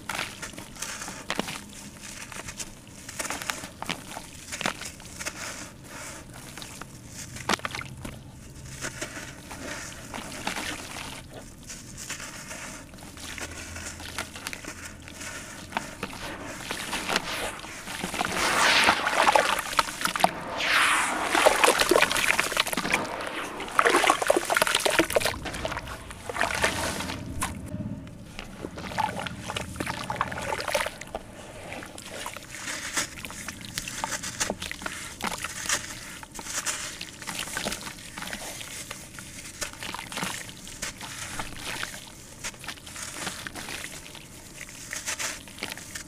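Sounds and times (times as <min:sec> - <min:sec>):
water sloshing and splashing: 0:00.0 - 0:46.0.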